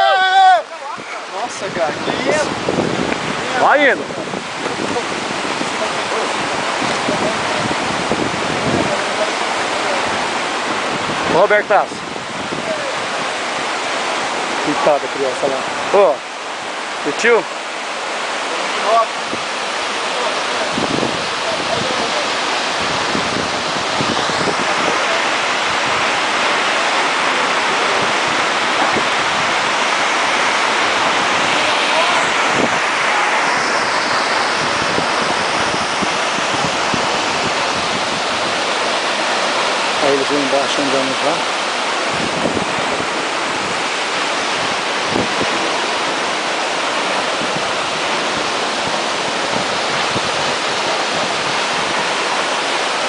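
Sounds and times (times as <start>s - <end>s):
waterfall pouring into pool: 3.3s - 12.0s, 12.6s - 53.0s.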